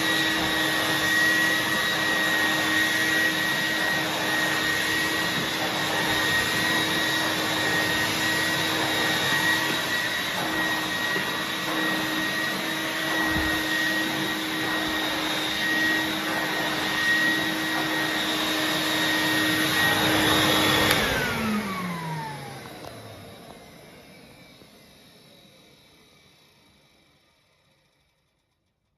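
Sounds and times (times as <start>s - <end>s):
vacuum motor whining: 0.0s - 27.2s.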